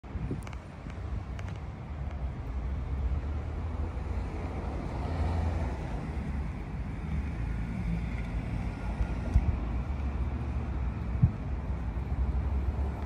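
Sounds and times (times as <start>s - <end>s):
distant traffic: 0.0s - 13.0s
low outdoor rumble: 0.0s - 13.0s.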